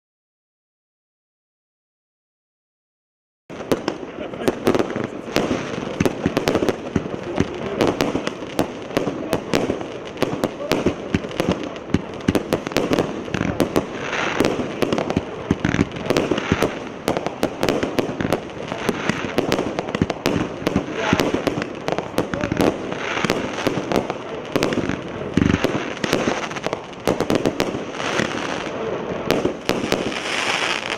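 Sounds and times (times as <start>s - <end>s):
firework shots and bursts: 3.5s - 30.9s.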